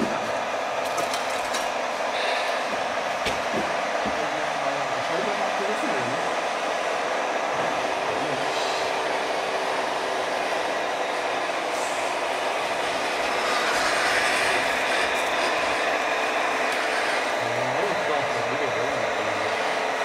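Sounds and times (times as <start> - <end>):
hydraulic pump running: 0.0 - 20.0.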